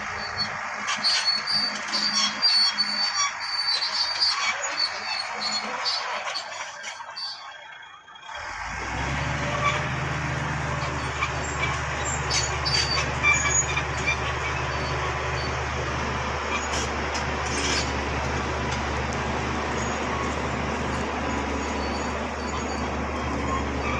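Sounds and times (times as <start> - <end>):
short squeaks and knocks: 0.0 - 7.6, 9.4 - 10.0, 10.7 - 23.9
diesel engine humming: 0.0 - 23.9
steel tracks clanking and squealing: 0.0 - 23.9.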